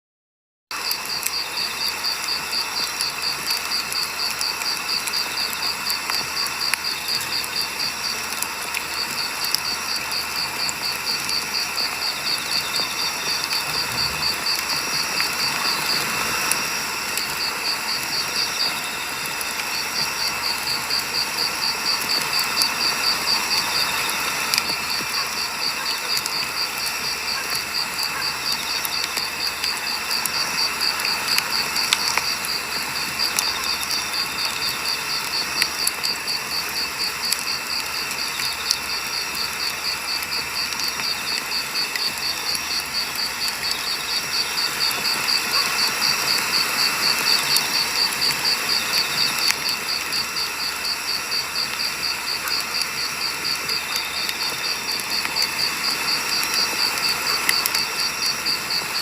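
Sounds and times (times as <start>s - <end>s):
campfire crackling and popping: 0.7s - 59.0s.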